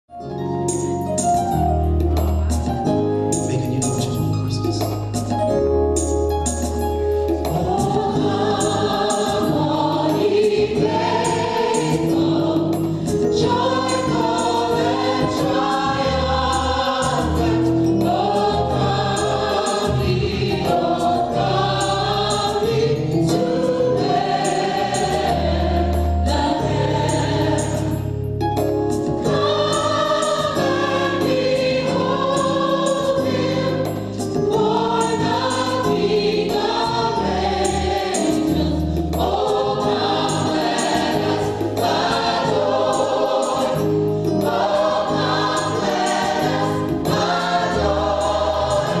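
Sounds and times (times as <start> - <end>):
instrumental accompaniment: 0.1 - 49.0
gospel choir singing: 7.3 - 28.4, 29.0 - 49.0.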